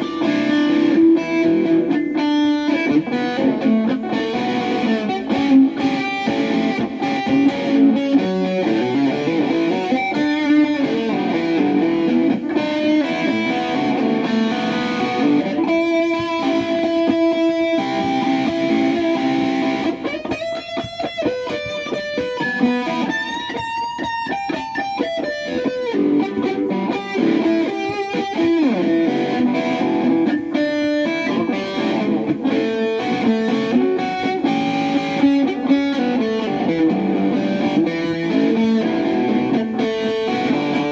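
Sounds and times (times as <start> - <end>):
overdriven electric guitar blues: 0.0 - 40.9.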